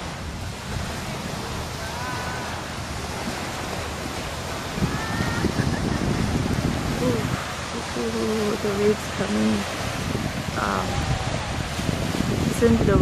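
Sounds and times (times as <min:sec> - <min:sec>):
waves washing onto beach: 0:00.0 - 0:13.0.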